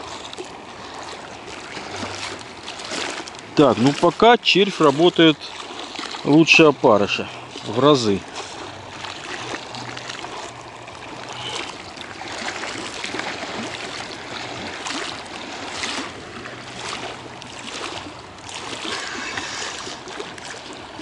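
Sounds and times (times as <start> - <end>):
small waves lapping against concrete: 0.0 - 21.0.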